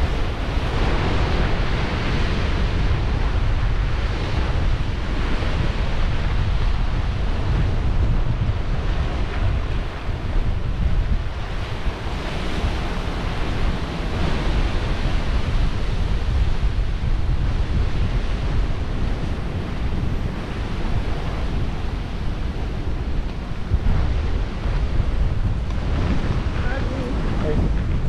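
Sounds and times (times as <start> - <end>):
sea surf breaking against cliffs: 0.0 - 28.0
wind rumble on microphone: 0.0 - 28.0.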